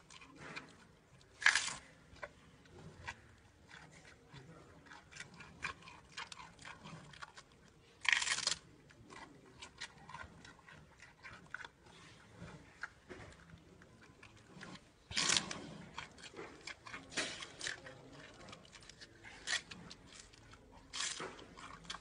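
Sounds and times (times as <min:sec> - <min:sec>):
panda chewing bamboo: 0:00.0 - 0:22.0.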